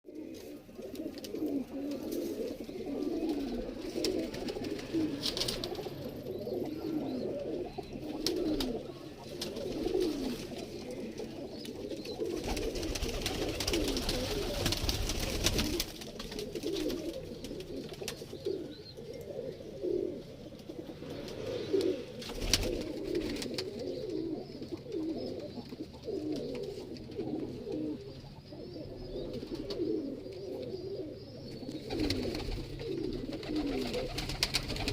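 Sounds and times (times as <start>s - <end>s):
pigeons cooing: 0.1s - 34.9s.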